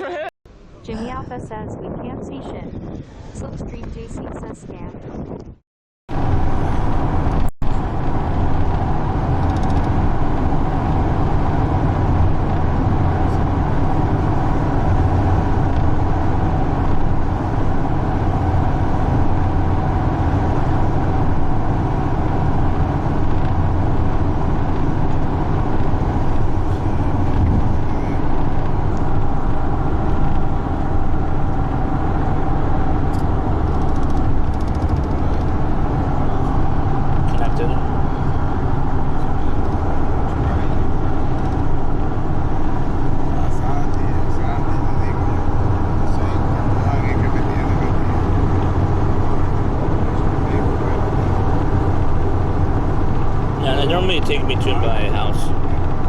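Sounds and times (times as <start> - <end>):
motor vehicle rumble: 0.0 - 56.0.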